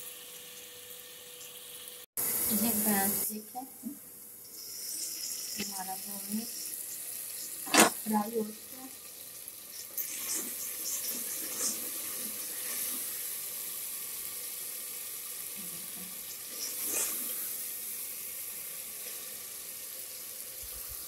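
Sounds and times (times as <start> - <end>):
onions and chicken sizzling in oil: 0.0 - 21.0.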